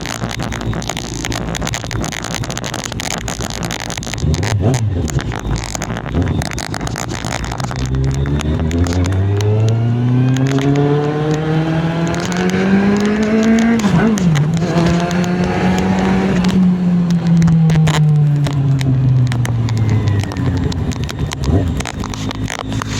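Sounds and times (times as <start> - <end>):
motorcycle engine accelerating: 0.0 - 22.9
rough noise and clicks: 0.0 - 22.9.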